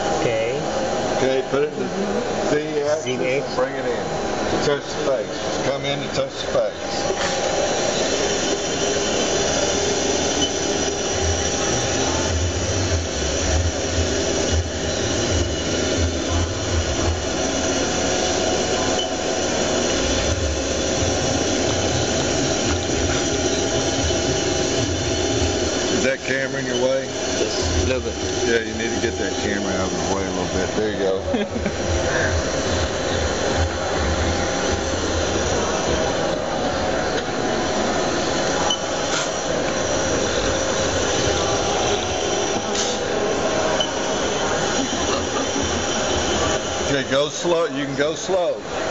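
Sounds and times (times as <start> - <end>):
lathe machine whir and hiss: 0.0 - 48.9.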